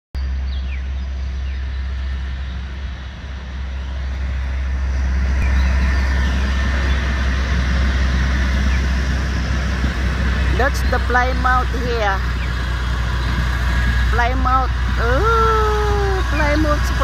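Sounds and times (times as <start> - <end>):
diesel locomotive rumbling past: 0.2 - 17.0.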